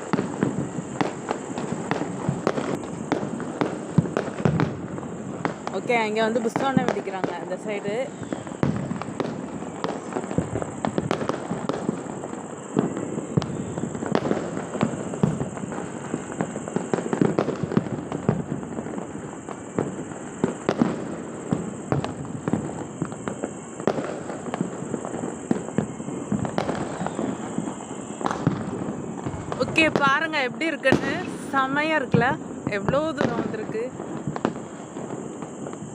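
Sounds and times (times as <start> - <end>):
fireworks crackling and banging: 0.0 - 35.9.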